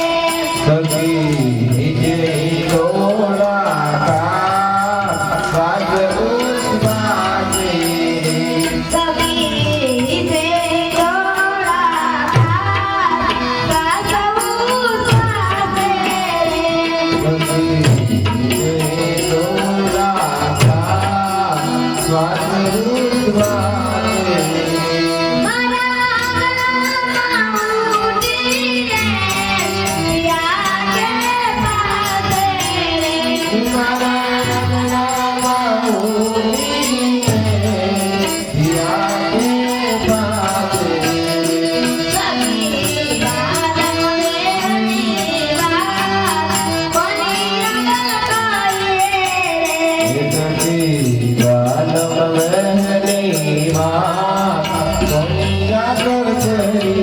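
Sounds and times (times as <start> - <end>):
devotional singing: 0.0 - 57.0
drum accompaniment: 0.0 - 57.0.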